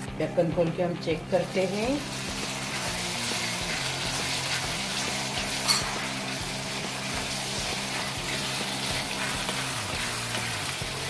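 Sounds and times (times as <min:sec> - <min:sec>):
vegetables sizzling in oil: 0:01.3 - 0:11.0.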